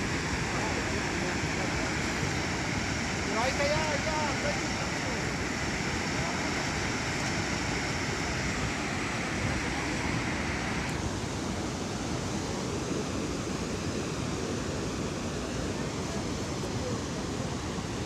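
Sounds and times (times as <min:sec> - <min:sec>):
high hiss: 0:00.0 - 0:18.0
water rushing: 0:00.0 - 0:18.0.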